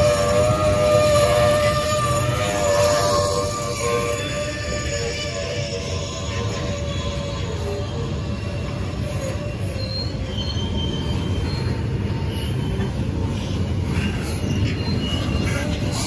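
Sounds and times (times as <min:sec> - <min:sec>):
train rumbling on rails: 0:00.0 - 0:16.0
wheel squeals: 0:00.0 - 0:16.0.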